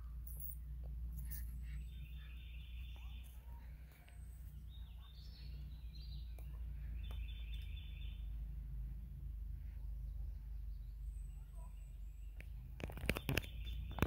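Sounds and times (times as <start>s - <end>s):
songbirds trilling: 0.0s - 14.0s
steady low rumble: 0.0s - 14.0s.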